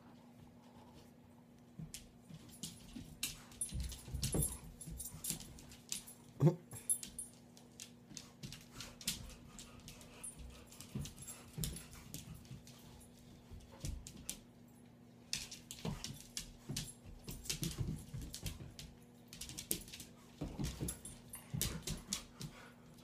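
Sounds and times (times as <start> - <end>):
dogs scuffling on wooden floor: 0.2 - 6.3, 6.9 - 23.0.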